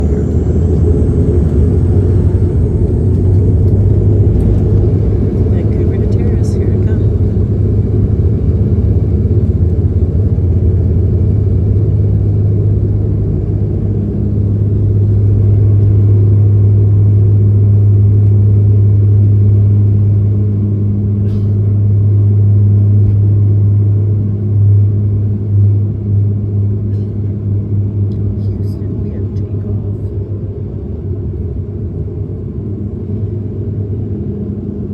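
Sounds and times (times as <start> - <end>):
vehicle engine drone: 0.0 - 34.9.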